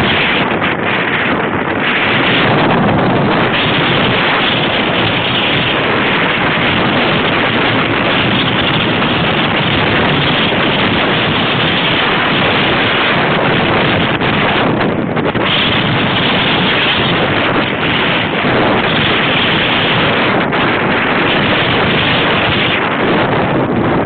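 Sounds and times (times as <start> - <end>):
wind noise on microphone: 0.0 - 24.0.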